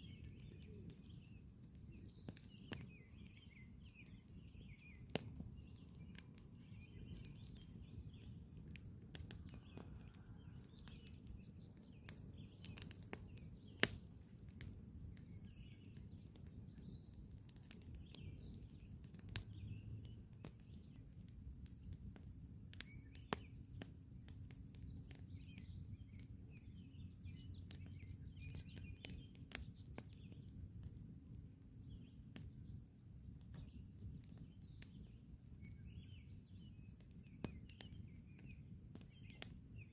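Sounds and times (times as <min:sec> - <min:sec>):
birds chirping: 0:00.0 - 0:39.9
campfire crackling and popping: 0:00.0 - 0:39.9.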